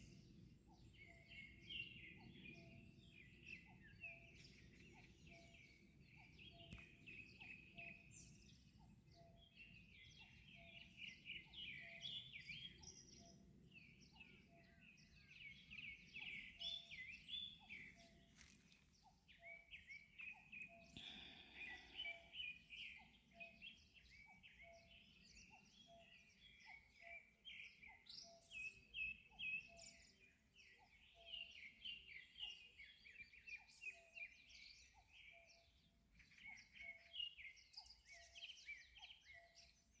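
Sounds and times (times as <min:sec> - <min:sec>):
birds chirping and twittering: 0:00.0 - 0:40.0.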